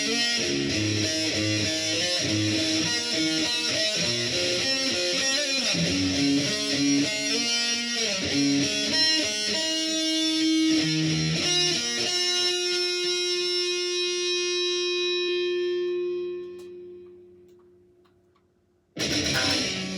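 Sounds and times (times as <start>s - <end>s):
high-gain electric guitar melody: 0.0s - 17.8s, 19.0s - 19.9s.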